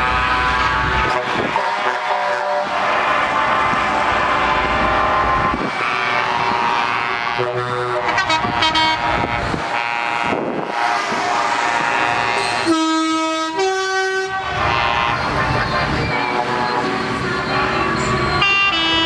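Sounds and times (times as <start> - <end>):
truck air horns: 0.0 - 19.0.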